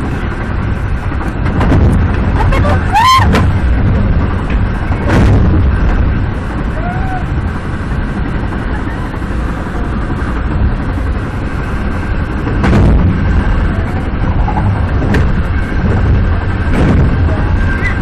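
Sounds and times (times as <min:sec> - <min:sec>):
train wheels rumbling on rails: 0:00.0 - 0:18.0
wheels banging on track joints: 0:00.0 - 0:18.0.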